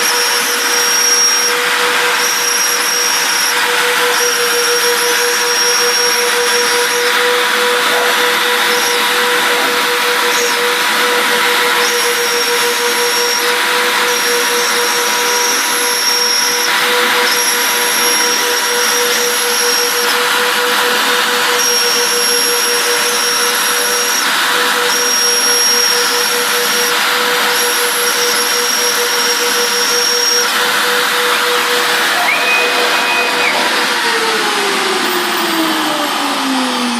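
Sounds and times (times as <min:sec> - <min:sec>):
higher machine whine: 0:00.0 - 0:36.9
router spindles whining: 0:00.0 - 0:36.9.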